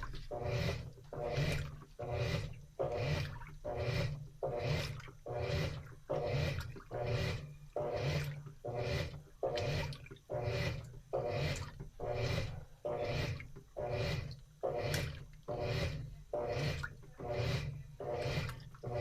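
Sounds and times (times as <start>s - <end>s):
washing machine motor hum: 0.0s - 19.0s
washing machine water swishing: 0.0s - 19.0s.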